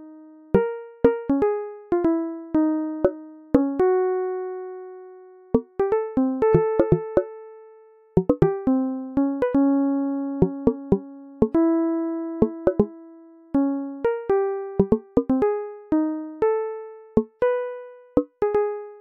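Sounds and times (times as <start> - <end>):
slow keyboard melody: 0.0 - 19.0.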